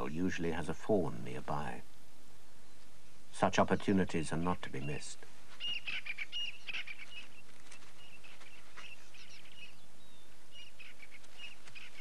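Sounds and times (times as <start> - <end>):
birds chirping: 0.0 - 12.0
faint steady hiss: 0.0 - 12.0.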